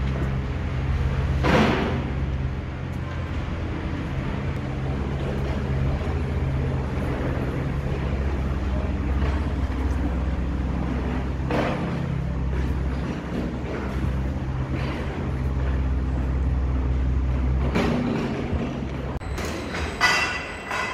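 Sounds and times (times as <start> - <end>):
low mechanical drone: 0.0 - 20.0.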